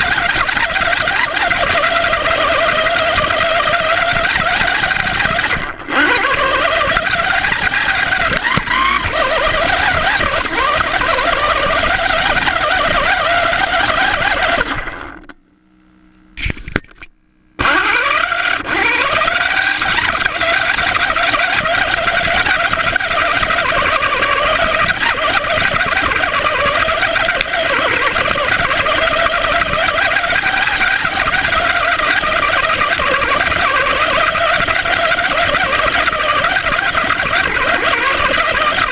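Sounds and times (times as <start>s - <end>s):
radio-controlled car motor whine: 0.0s - 38.9s.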